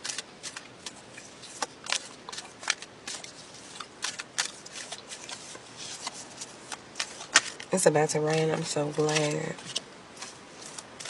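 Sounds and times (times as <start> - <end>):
cards being shuffled by hand: 0.0 - 11.0.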